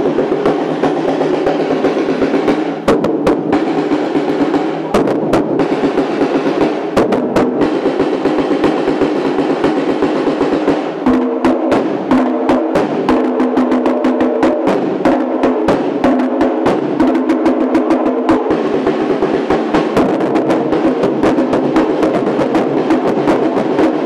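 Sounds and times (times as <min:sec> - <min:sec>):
samba percussion drumming: 0:00.0 - 0:24.0.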